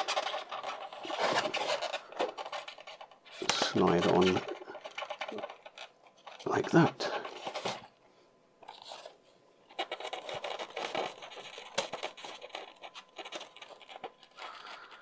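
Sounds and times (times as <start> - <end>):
plastic scraping on foam: 0.0 - 7.9, 8.6 - 15.0.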